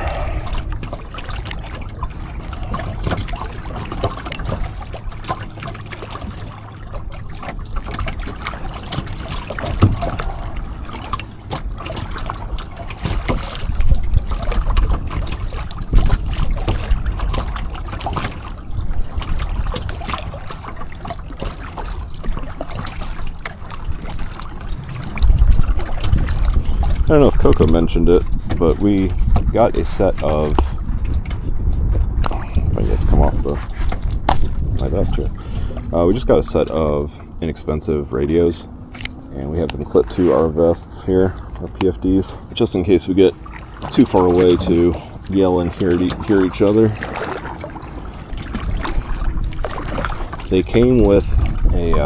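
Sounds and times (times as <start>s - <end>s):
low rumble: 0.0s - 5.2s, 13.6s - 52.0s
paddle splashing in water: 0.0s - 52.0s
water trickling and dripping: 0.0s - 52.0s.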